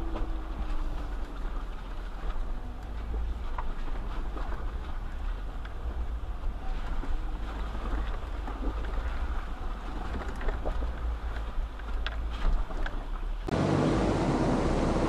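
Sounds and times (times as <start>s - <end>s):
engine and drivetrain rumble: 0.0s - 15.0s.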